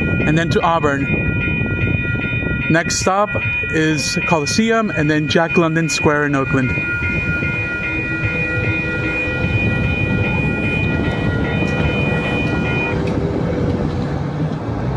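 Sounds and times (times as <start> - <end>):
crossing warning bell ringing: 0.0 - 13.4
train wheels rumbling on rail: 0.0 - 14.9.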